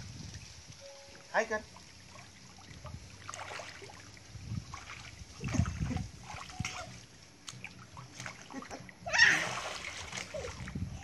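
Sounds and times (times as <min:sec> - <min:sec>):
pool water sloshing: 0:01.4 - 0:11.0.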